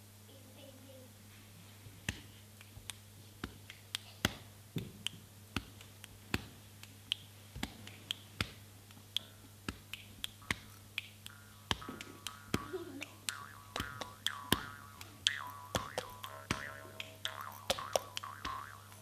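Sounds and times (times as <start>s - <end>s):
faint low hum: 0.0s - 19.0s
sharp hand clicks: 2.1s - 19.0s.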